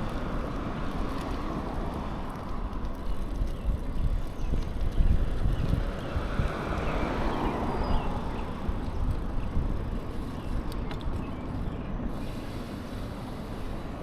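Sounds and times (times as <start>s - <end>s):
wind rumbling on microphone: 0.0s - 12.6s.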